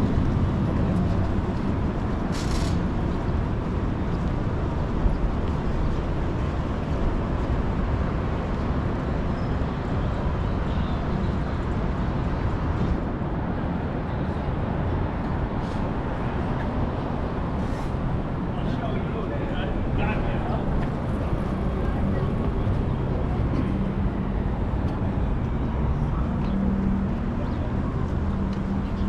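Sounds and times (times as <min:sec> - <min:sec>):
passing traffic rumble: 0:00.0 - 0:29.0.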